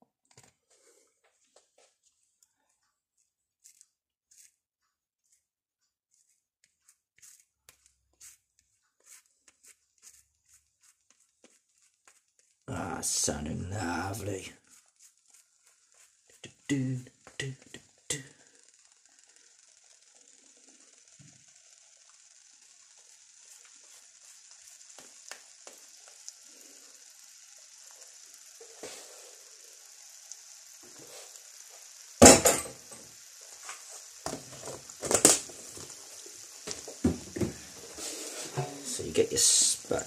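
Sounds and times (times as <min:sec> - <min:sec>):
egg sizzling in a pan: 0:00.5 - 0:04.6, 0:05.2 - 0:05.5, 0:06.1 - 0:40.0.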